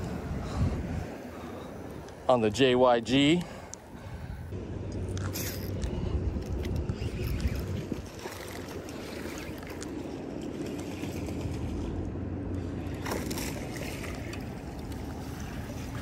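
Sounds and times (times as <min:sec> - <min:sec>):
wind buffeting microphone: 0:00.0 - 0:02.2, 0:03.4 - 0:04.6, 0:05.8 - 0:16.0.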